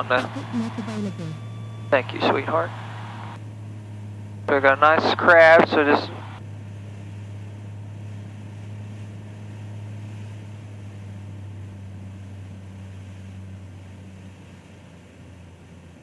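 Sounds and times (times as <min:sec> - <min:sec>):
aircraft engine and propeller droning: 0:00.0 - 0:15.3.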